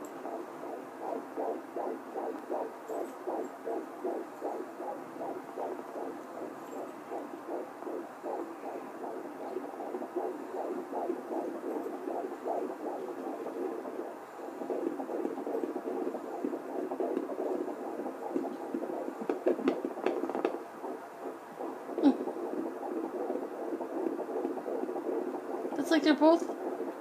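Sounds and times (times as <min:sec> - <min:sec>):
fetal doppler heartbeat pulses: 0:00.0 - 0:27.0.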